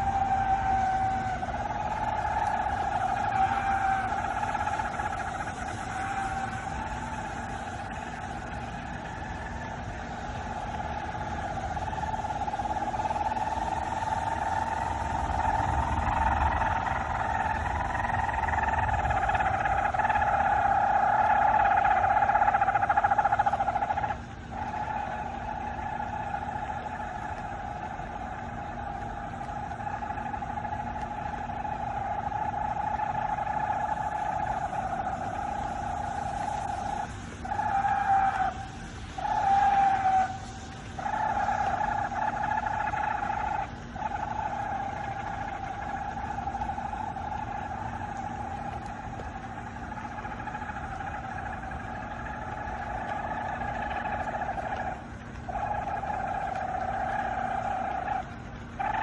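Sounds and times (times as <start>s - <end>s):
loud droning hum: 0.0s - 59.0s.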